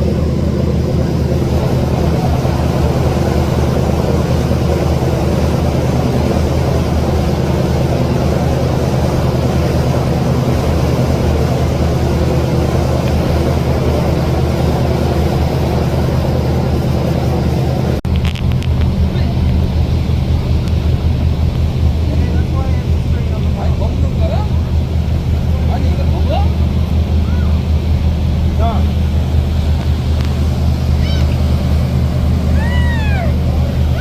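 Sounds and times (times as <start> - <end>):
large engine droning: 0.0 - 34.0.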